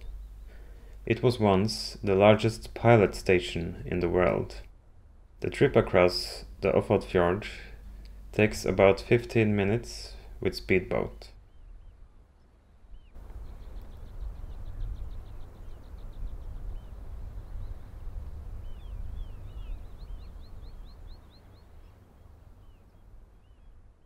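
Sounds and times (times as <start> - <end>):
small birds chirping: 0.0 - 2.8, 5.4 - 24.0.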